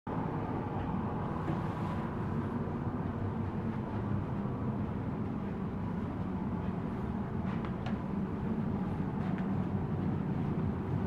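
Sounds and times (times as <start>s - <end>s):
low rumble of ship engines: 0.1s - 11.0s.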